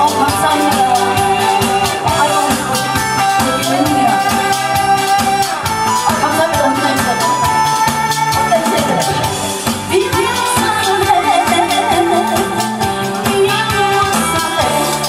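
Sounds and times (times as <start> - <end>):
amplified backing music with beat: 0.0 - 15.0
woman singing into microphone: 0.0 - 15.0.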